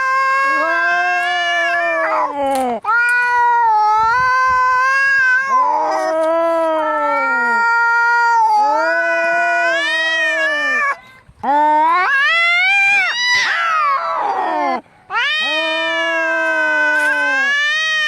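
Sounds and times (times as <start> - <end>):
cats yowling: 0.0 - 18.0.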